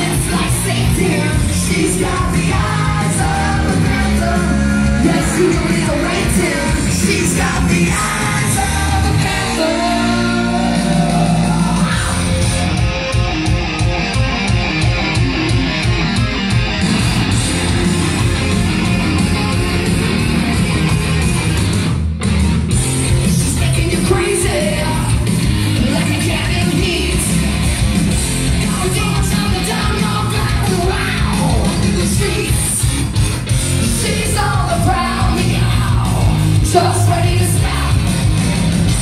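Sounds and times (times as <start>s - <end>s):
heavy metal rock music: 0.0s - 39.0s.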